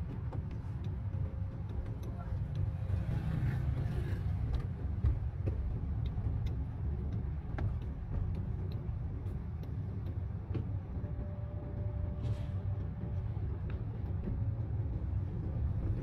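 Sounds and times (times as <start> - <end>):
car engine and tyres rumbling: 0.0 - 16.0
light ticks: 0.0 - 16.0.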